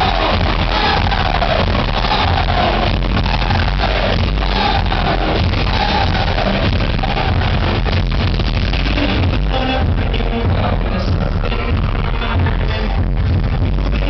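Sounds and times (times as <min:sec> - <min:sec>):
heavy bass beat: 0:00.0 - 0:14.0
live concert music: 0:00.0 - 0:14.0.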